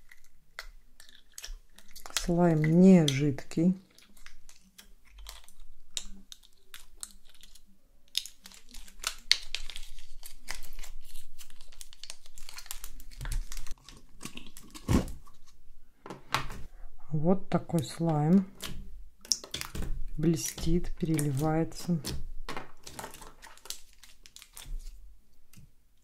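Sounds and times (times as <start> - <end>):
nails squishing sticky slime: 0.0 - 15.0, 17.5 - 25.6.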